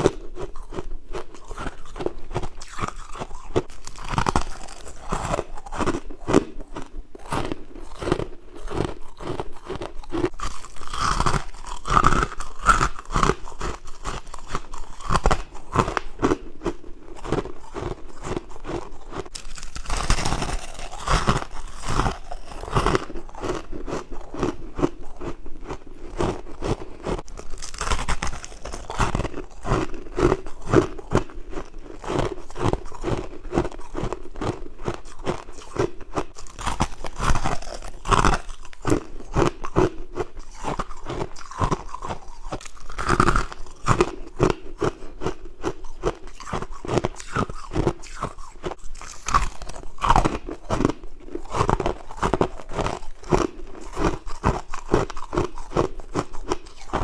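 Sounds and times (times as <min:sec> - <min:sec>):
person chewing crunchy frost: 0:00.0 - 0:57.0.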